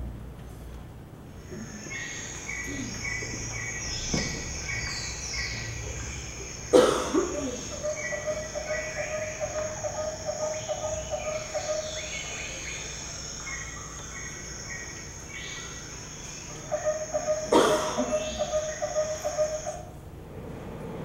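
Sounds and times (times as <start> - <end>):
trilling insects: 1.3 - 20.0
high insect whine: 1.3 - 20.2
birds chirping: 1.4 - 19.9.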